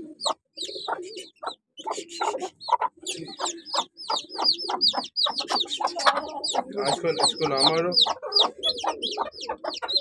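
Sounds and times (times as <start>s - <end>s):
chicks peeping: 0.0s - 10.0s
hen clucking: 0.0s - 10.0s.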